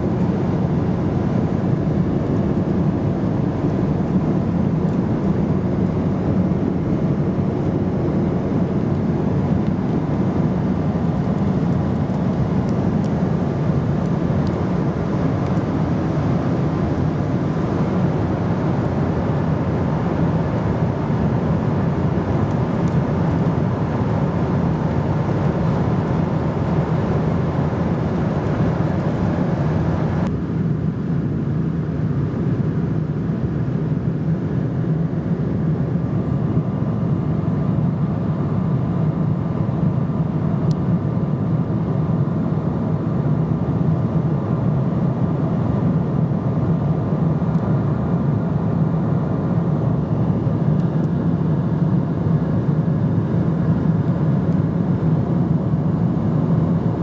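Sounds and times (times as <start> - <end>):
airliner cabin airflow and engine rush: 0.0 - 57.0.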